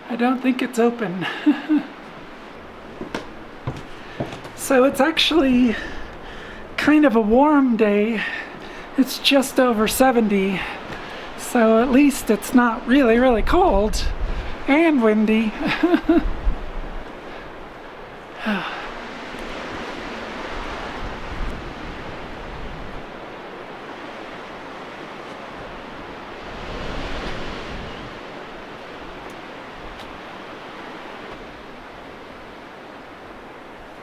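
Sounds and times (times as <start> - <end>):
wind buffeting microphone: 1.9 - 34.0.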